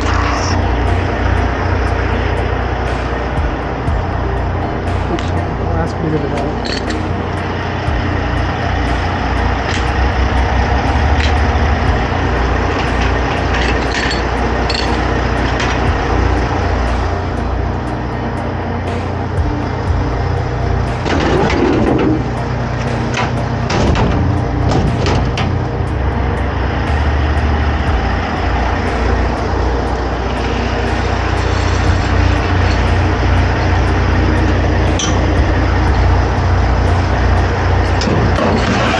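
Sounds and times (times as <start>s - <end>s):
diesel truck engine rumbling: 0.0s - 38.9s
road and cab noise: 0.0s - 38.9s.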